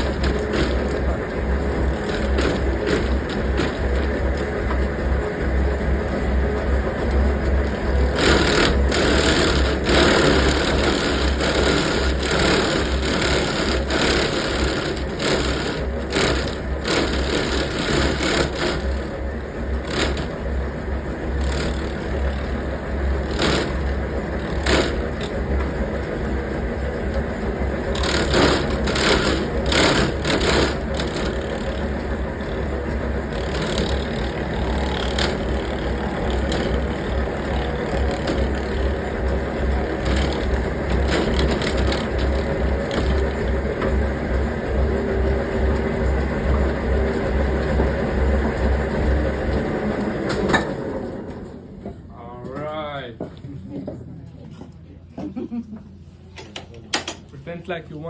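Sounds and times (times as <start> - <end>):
cutter boring into wood: 0.0 - 50.6
machine motor hum: 0.0 - 58.0.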